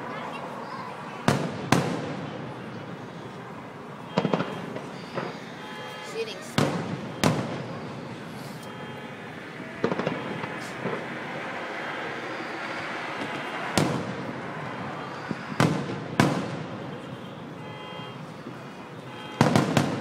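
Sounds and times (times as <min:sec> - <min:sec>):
fireworks bursting: 0:01.2 - 0:17.5, 0:18.2 - 0:20.0.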